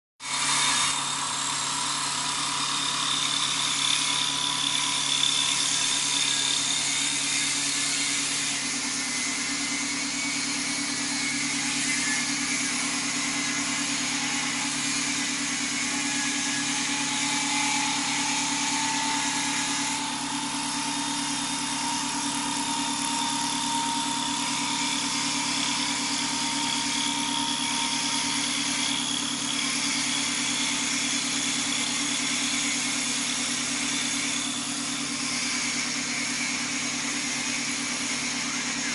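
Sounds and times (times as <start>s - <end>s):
cutters shaving wood: 0.2s - 38.9s
lathe motor hum: 0.2s - 38.9s.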